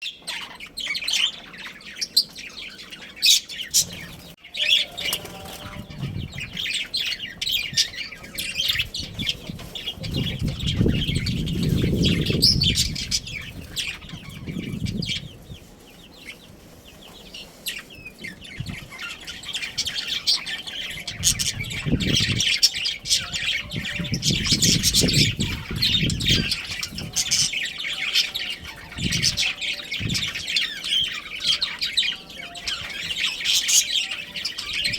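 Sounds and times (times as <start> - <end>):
budgerigars chirping and chattering: 0.0 - 34.9.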